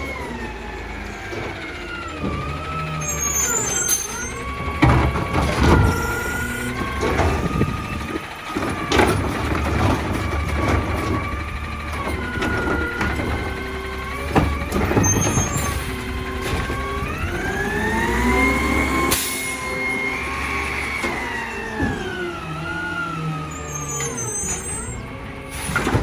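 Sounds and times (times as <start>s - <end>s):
garbage truck engine and hydraulics: 0.0s - 26.0s
knocks and thumps of carts: 0.0s - 26.0s.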